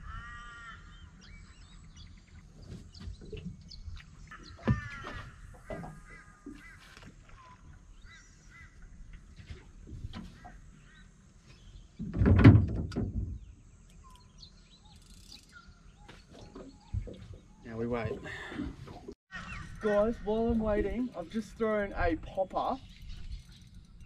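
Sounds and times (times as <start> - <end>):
birds chirping: 0.0 - 12.1, 13.3 - 24.0.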